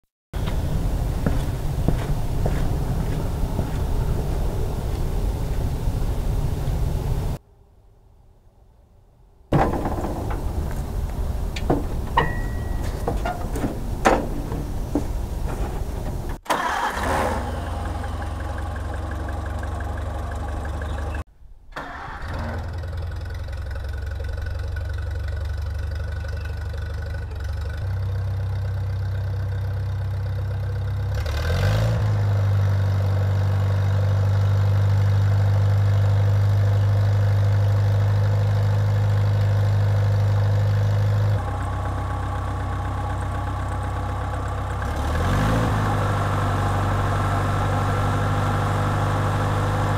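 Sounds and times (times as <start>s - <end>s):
tractor engine running: 0.3s - 7.4s, 9.5s - 49.9s.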